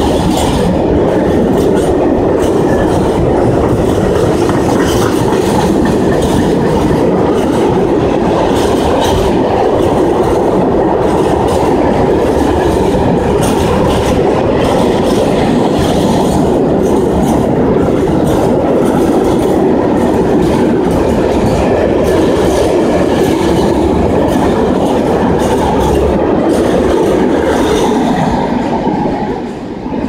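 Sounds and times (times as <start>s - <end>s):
steel wheels rumbling on rail: 0.0s - 30.0s
wagons clattering and clicking: 1.4s - 28.3s.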